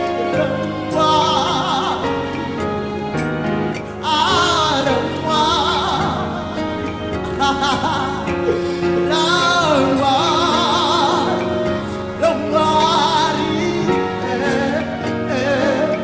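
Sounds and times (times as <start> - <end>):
person singing with vibrato: 0.0 - 16.0
sustained accompaniment chords: 0.0 - 16.0.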